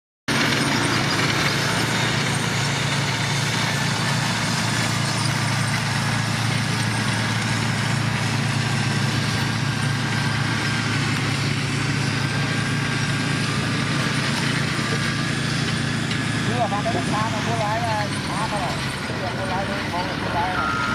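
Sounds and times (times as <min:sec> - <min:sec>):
diesel engine running: 0:00.3 - 0:20.9.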